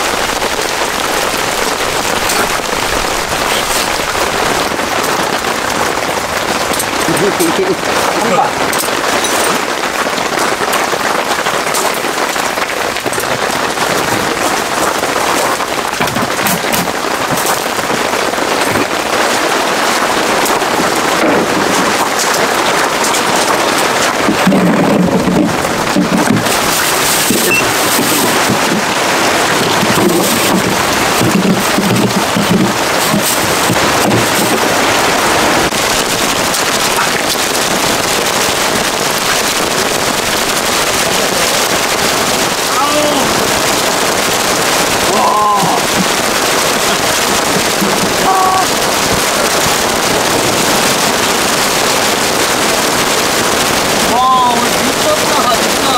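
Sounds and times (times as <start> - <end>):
heavy rain pelting: 0.0 - 55.9.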